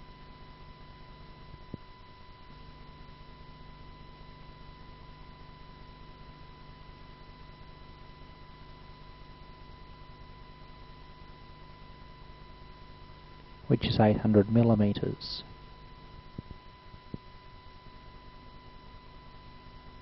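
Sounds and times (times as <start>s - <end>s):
electrical hum: 0.0s - 20.0s
high whine: 0.0s - 20.0s.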